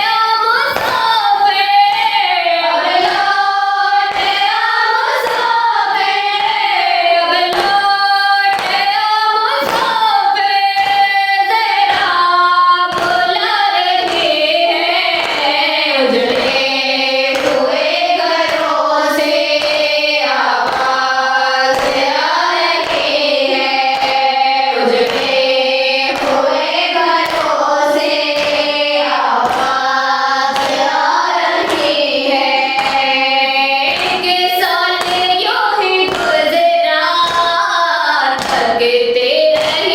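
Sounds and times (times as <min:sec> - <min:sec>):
voices singing a lament: 0:00.0 - 0:39.9.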